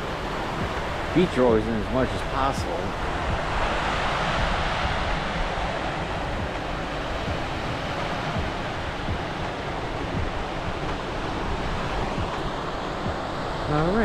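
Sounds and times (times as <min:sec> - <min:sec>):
waves breaking on shore: 0:00.0 - 0:14.0
wind rumbling on microphone: 0:00.0 - 0:14.0.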